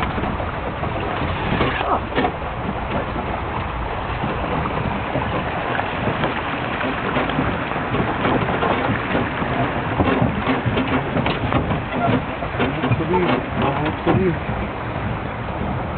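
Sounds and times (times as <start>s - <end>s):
carriage rumbling and rattling: 0.0s - 15.9s.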